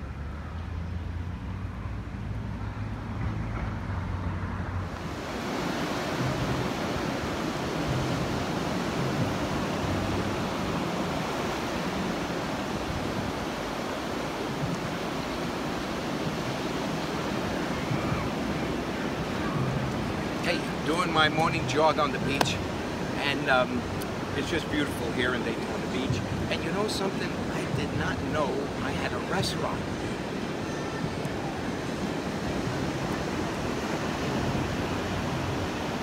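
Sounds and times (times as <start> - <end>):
ocean surf breaking: 3.1 - 36.0.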